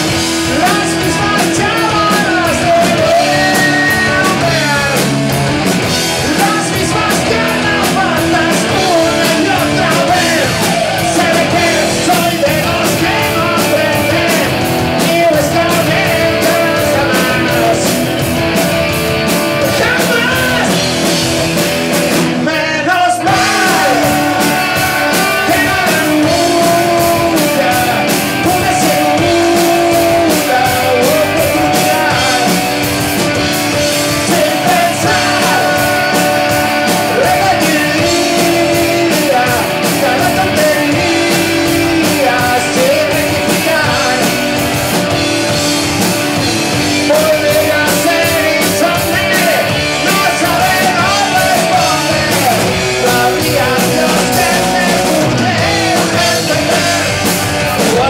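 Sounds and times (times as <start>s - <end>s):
bass guitar: 0.0s - 58.0s
drum kit: 0.0s - 58.0s
electric guitars: 0.0s - 58.0s
lead singer singing: 0.0s - 58.0s.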